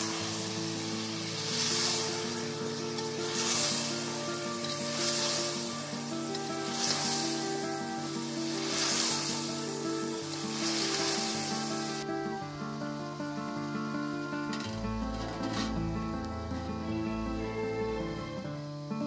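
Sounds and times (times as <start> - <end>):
food sizzling in hot oil: 0.0 - 17.6
instrumental background music: 0.0 - 19.0.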